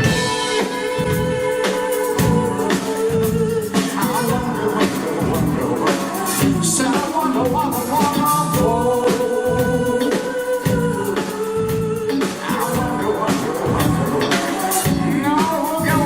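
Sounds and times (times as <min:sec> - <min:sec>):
live band playing: 0:00.0 - 0:16.0
person singing: 0:00.0 - 0:16.0.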